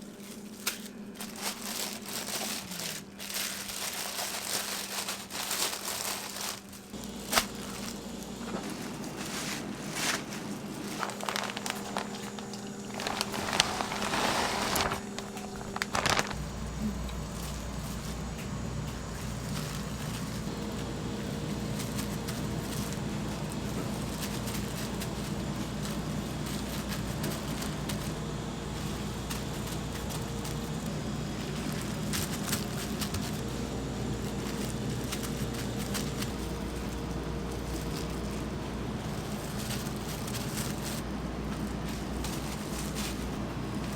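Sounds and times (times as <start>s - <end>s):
crackling and rustling: 0.0s - 43.9s
steady low hum: 0.0s - 43.9s.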